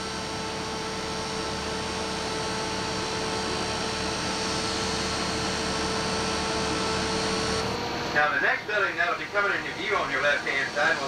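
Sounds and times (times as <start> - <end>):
constant humming tone: 0.0 - 11.0.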